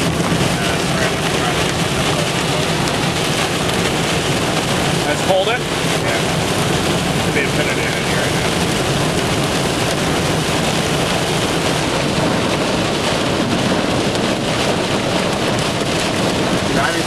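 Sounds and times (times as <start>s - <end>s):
heavy rain on a car: 0.0s - 17.0s
vehicle road noise: 0.0s - 17.0s.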